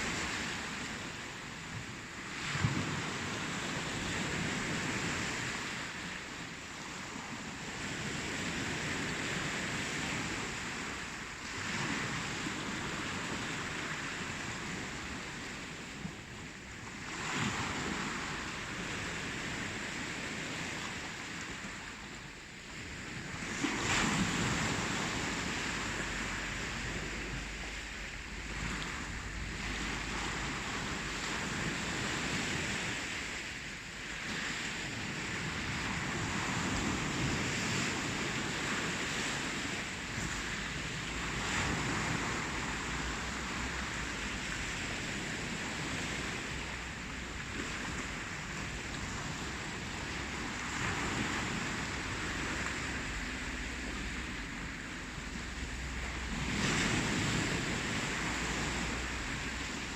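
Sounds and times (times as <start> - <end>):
ocean waves rolling in: 0.0 - 59.9.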